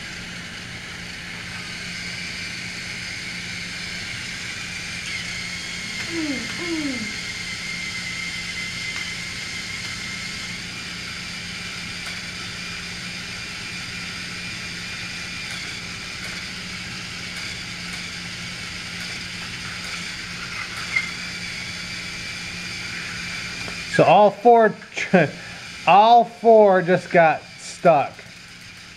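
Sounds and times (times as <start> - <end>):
toy train motors whirring: 0.0 - 28.9.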